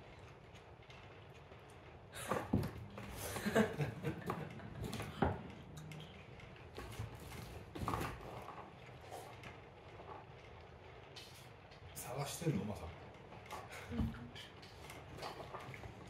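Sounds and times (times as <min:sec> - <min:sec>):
cat scratching and rustling toy: 0:00.0 - 0:16.0.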